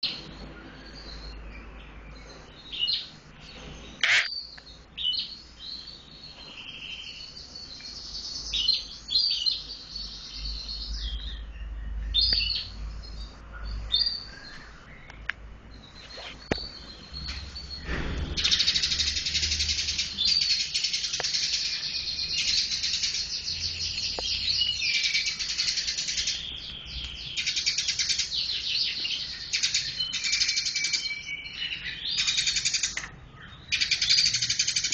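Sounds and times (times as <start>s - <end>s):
sparrow chirping: 0.0s - 34.9s.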